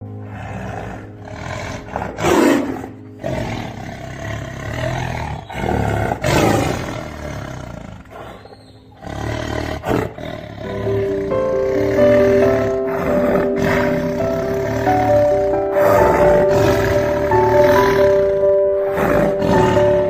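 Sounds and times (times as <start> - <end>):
big cat roaring: 0.1 - 20.0.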